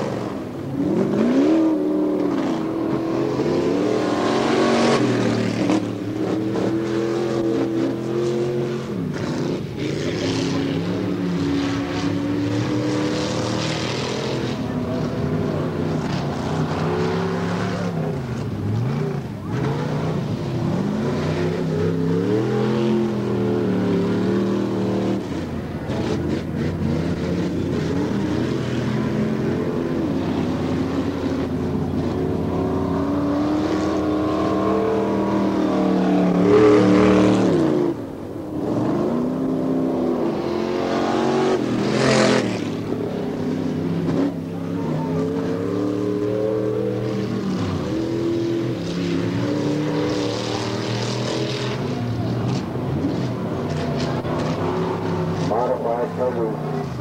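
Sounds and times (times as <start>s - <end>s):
race buggy engines revving: 0.0s - 57.0s.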